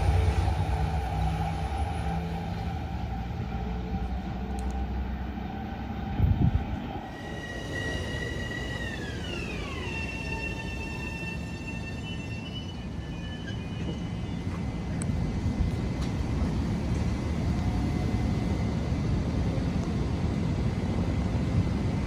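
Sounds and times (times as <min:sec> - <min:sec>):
traction motor whine: 0:00.0 - 0:19.0
electric train rumbling: 0:00.0 - 0:22.0.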